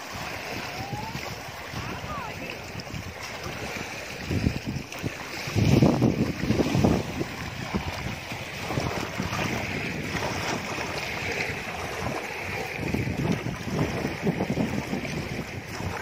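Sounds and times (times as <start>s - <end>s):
small waves lapping over rocks: 0.0s - 16.0s
wind buffeting microphone: 0.0s - 16.0s.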